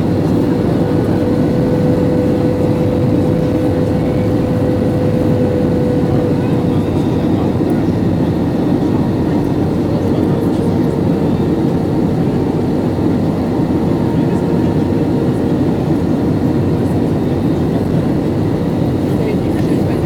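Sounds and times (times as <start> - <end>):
airliner engine rumble: 0.0 - 20.0.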